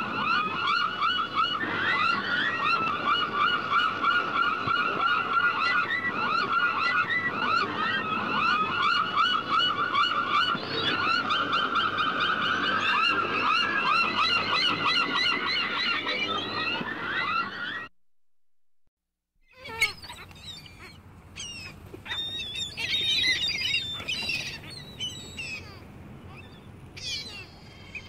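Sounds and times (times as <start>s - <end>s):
gulls calling: 0.0s - 17.9s, 19.5s - 28.0s.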